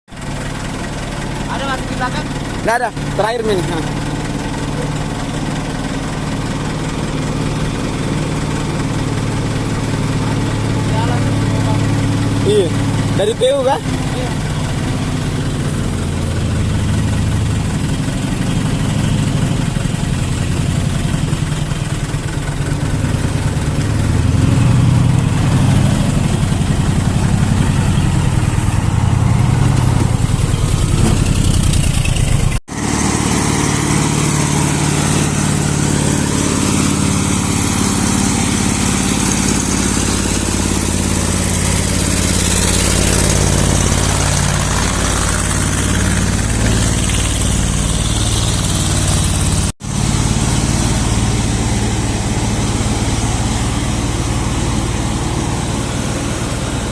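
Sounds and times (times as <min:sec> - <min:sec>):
diesel engine idling: 0:00.1 - 0:56.9.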